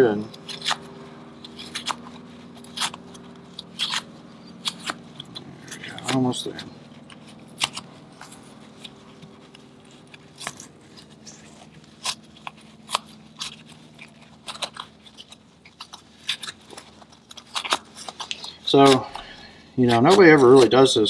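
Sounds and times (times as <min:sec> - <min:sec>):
faint steady hum: 0:00.0 - 0:21.0
paper filter crackling and crunching: 0:00.0 - 0:21.0.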